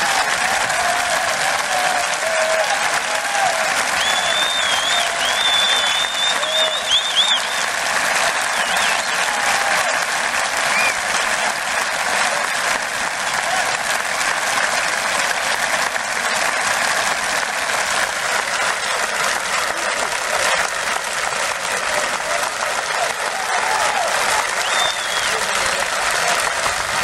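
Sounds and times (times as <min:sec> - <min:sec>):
stadium crowd applauding: 0:00.0 - 0:27.0.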